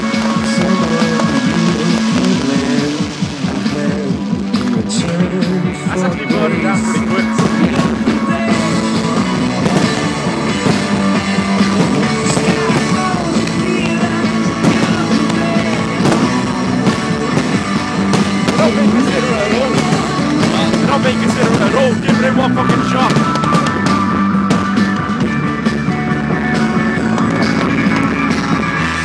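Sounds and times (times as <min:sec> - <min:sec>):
heavy rock music with singing: 0:00.0 - 0:29.0.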